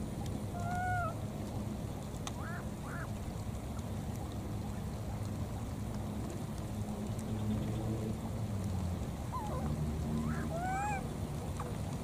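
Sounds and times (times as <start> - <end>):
faint water sounds: 0.0 - 12.0
low motor-like hum: 0.0 - 12.0.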